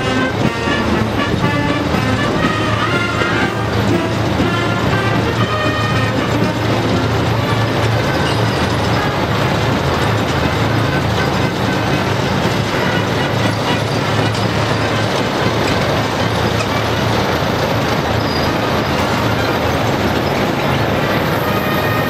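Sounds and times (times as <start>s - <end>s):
heavy vehicles driving past: 0.0s - 22.0s.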